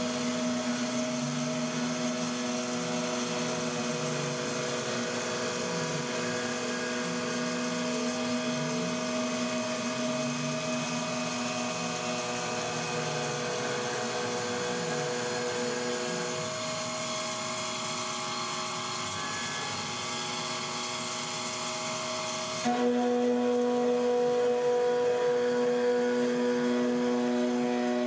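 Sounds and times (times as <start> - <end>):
milling machine cutting whine: 0.0 - 28.0.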